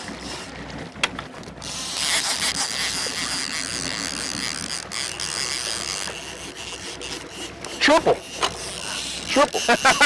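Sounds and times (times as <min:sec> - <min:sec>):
fishing reel drag buzzing: 0:00.0 - 0:00.5, 0:01.6 - 0:10.0.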